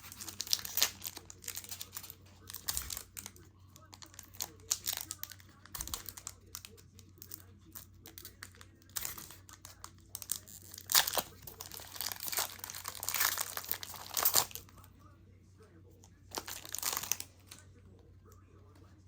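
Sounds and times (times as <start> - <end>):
foil wrapper crinkling and tearing: 0.0 - 14.7, 16.3 - 17.5.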